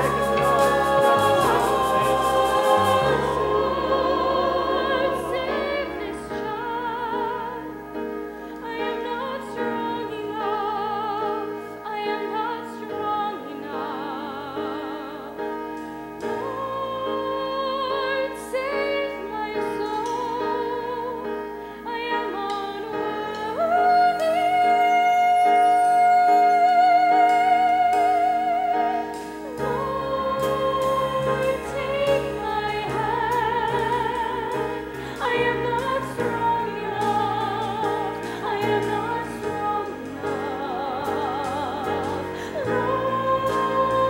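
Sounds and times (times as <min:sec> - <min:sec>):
instrumental accompaniment: 0:00.0 - 0:44.0.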